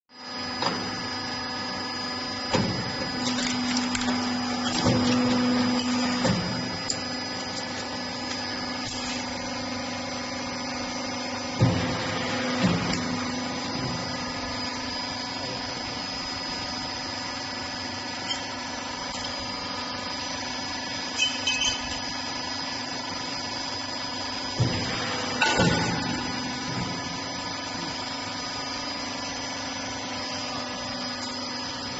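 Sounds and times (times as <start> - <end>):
machine humming: 0.2 - 31.9.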